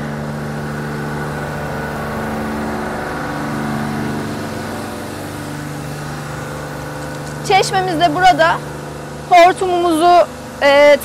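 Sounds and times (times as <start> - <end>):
car wash machinery humming: 0.0 - 11.0.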